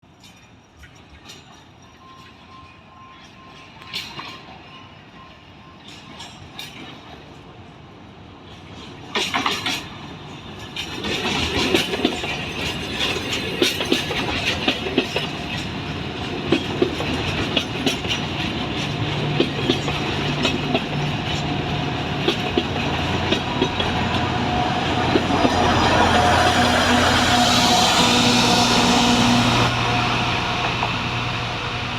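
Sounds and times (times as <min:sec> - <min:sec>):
train wheels clicking over rail joints: 0:00.1 - 0:04.8, 0:05.8 - 0:07.6, 0:08.4 - 0:31.4.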